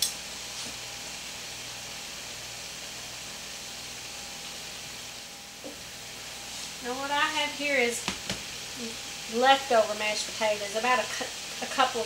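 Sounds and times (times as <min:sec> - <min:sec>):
broth simmering in skillet: 0:00.0 - 0:12.0.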